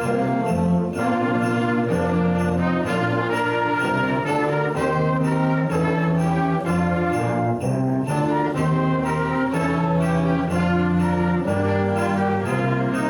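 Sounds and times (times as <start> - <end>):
instrumental ensemble playing chords: 0.0 - 13.0.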